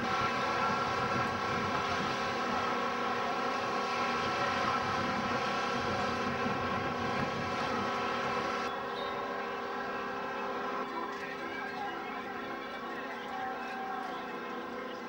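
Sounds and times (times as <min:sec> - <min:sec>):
aircraft engine whine: 0:00.0 - 0:15.0.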